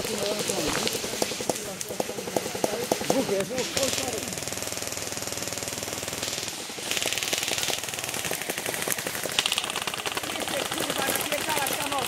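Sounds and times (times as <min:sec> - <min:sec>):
airsoft guns firing bursts: 0:00.0 - 0:12.0.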